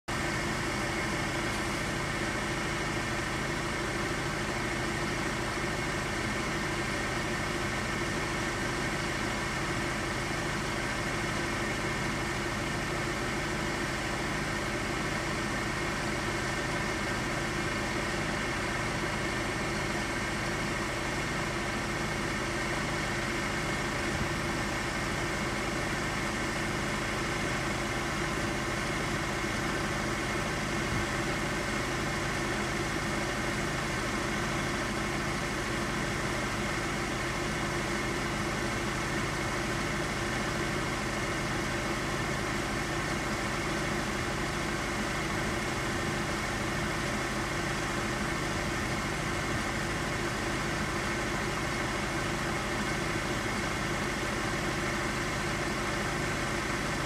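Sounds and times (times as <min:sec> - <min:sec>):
engine idling hum: 0:00.1 - 0:57.0.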